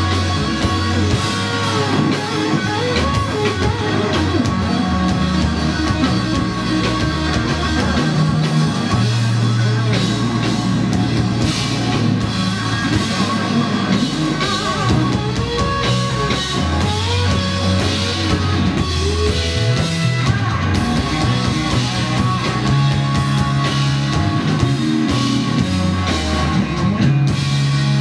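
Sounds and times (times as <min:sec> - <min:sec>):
blues-rock band playing live: 0:00.0 - 0:28.0
drums: 0:00.0 - 0:28.0
electric guitar lead: 0:00.0 - 0:28.0.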